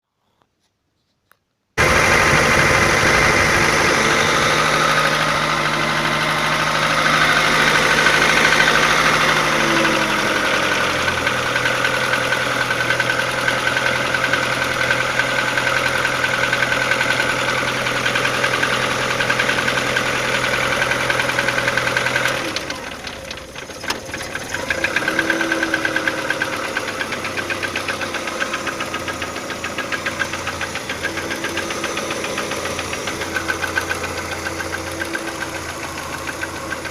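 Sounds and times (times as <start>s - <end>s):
car engine idling: 1.8s - 36.9s
rhythmic engine knock: 1.8s - 36.9s.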